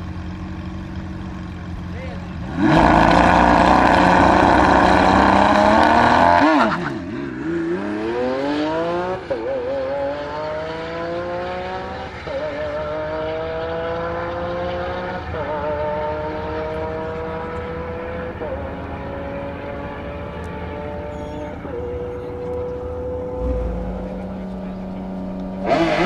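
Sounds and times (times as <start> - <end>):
car engines revving: 0.0 - 26.0
cars accelerating and upshifting: 2.3 - 26.0.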